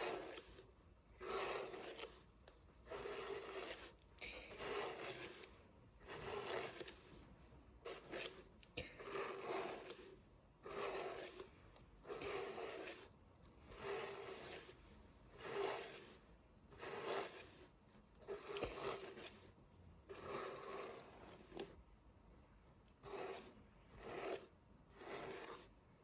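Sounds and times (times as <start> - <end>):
hairbrush swishing through hair: 0.0 - 2.2, 2.9 - 7.2, 7.8 - 11.5, 12.1 - 16.2, 16.8 - 17.7, 18.3 - 21.7, 23.0 - 25.7.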